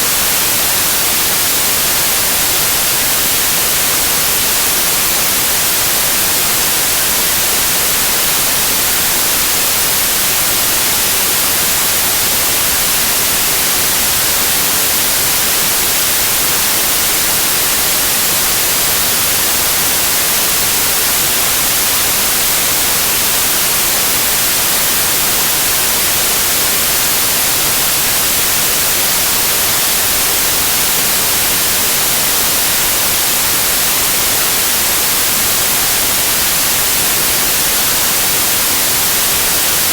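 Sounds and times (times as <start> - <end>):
static white noise hiss: 0.0 - 39.9.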